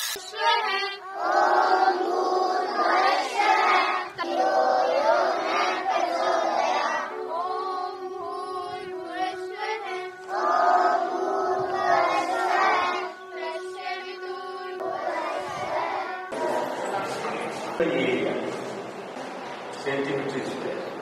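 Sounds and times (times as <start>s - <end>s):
noisy sound: 0.0s - 21.0s
children singing in unison: 0.2s - 17.8s.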